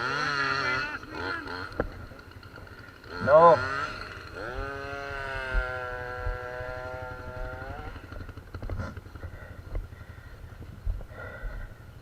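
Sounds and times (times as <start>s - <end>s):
atv engine revving: 0.0s - 12.0s
engine knocks: 1.5s - 11.7s.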